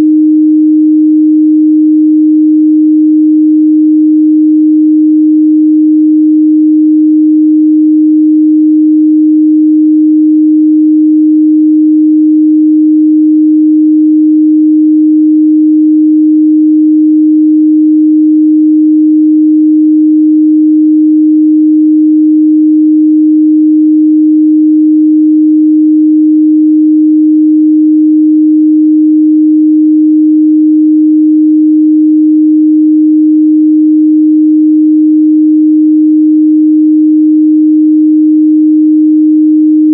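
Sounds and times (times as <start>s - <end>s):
pure sine test tone: 0.0s - 39.9s.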